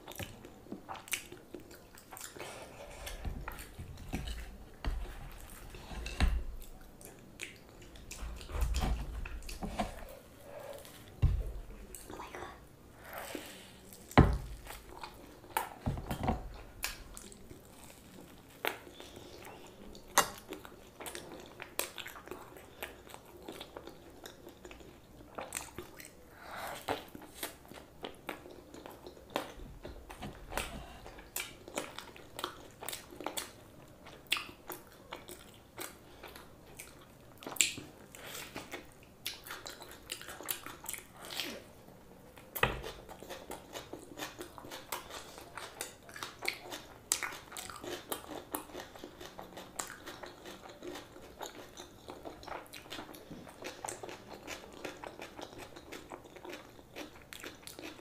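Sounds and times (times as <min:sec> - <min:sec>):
wet chewing: 0:00.0 - 0:41.8, 0:42.4 - 0:58.0.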